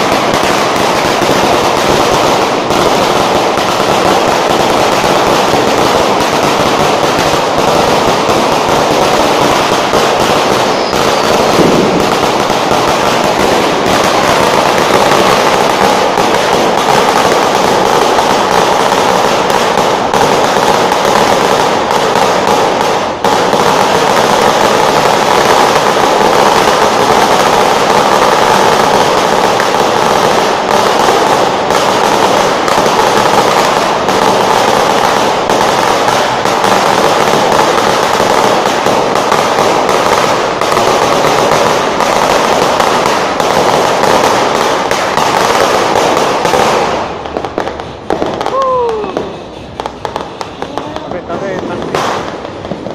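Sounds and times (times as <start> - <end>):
firecrackers crackling: 0.0 - 52.9.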